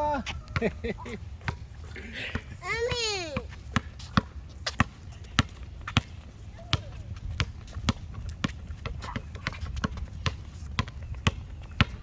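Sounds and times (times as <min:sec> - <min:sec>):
basketball dribbled on hard court: 0:02.3 - 0:12.0.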